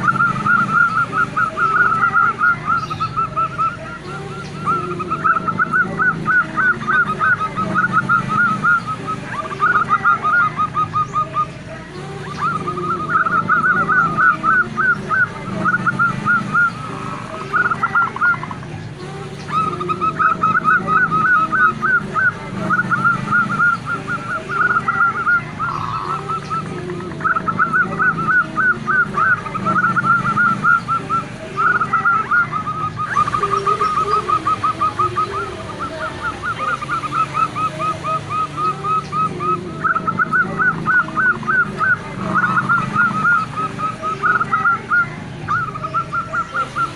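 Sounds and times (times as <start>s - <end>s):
dove calling in rapid notes: 0.0s - 46.9s.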